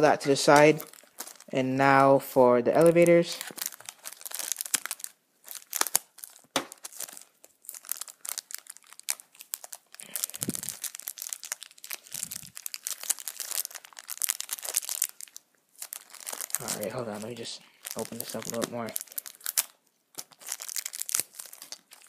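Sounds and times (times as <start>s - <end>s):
packaging crinkling: 0.3s - 1.8s, 2.7s - 22.0s.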